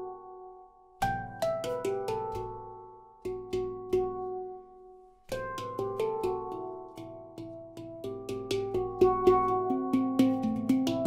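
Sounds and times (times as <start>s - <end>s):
handpan notes: 1.0s - 4.7s, 5.3s - 11.0s.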